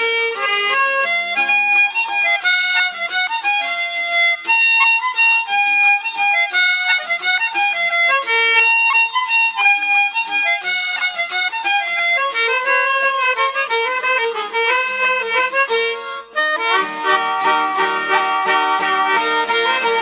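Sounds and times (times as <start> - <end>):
fiddle playing a waltz: 0.0 - 20.0.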